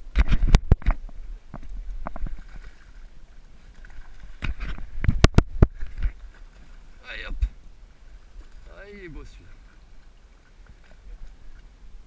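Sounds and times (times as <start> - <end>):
water lapping against boat hull: 0.0 - 12.0
wind rumbling on microphone: 0.0 - 12.0.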